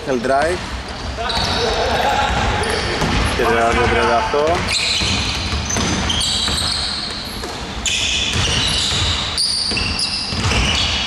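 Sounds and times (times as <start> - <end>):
basketball dribbling thuds: 0.3 - 11.0
shoes squeaking on hardwood: 0.8 - 11.0.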